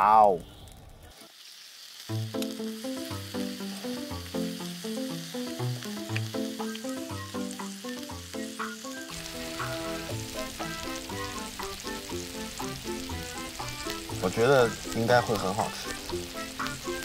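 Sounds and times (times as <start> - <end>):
beef sizzling on salt block: 0.6 - 17.0
light melodic background music: 2.1 - 17.0.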